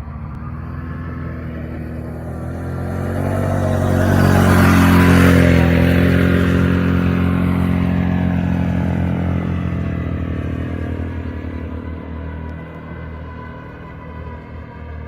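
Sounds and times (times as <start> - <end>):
atv engine running under load: 0.0 - 15.0.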